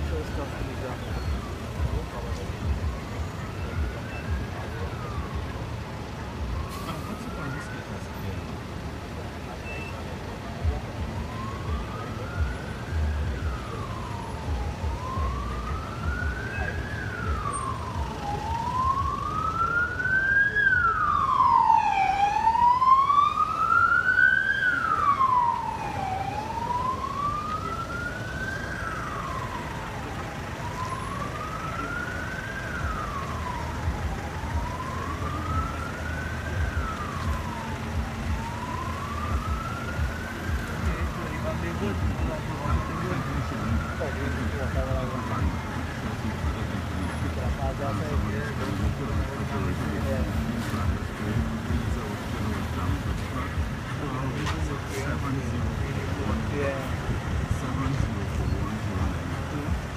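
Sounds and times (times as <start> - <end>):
emergency vehicle siren wailing: 0.0 - 59.9
low rumble of traffic: 0.0 - 59.9.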